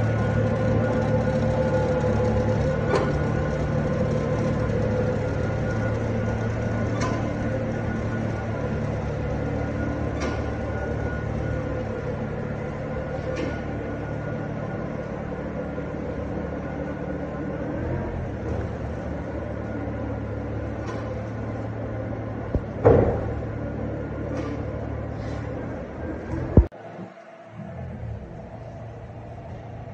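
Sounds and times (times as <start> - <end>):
feed wagon machine hum: 0.0 - 29.9.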